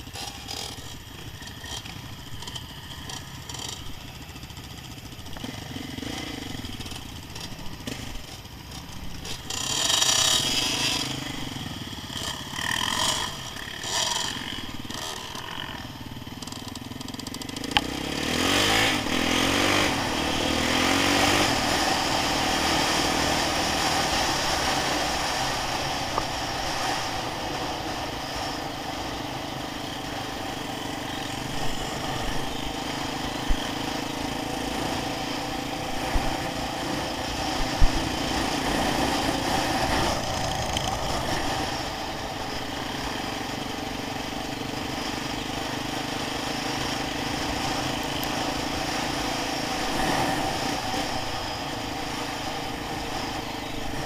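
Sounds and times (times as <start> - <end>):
off-road engines revving: 0.0 - 54.0.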